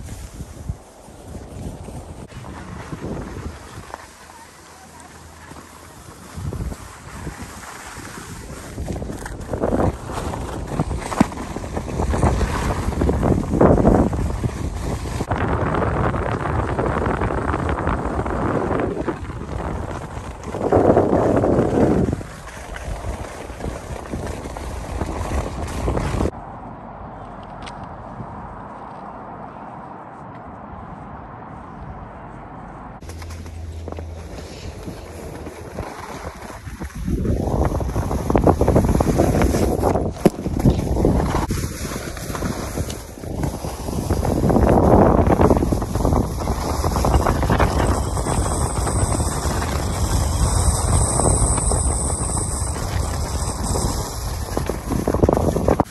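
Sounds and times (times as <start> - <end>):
skis scraping over snow: 0.0 - 26.3, 33.0 - 55.9
wind buffeting microphone: 0.0 - 55.9.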